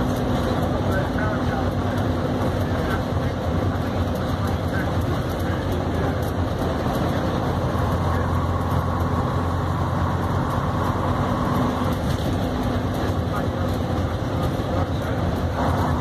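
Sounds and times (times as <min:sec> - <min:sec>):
diesel bus engine running: 0:00.0 - 0:16.0.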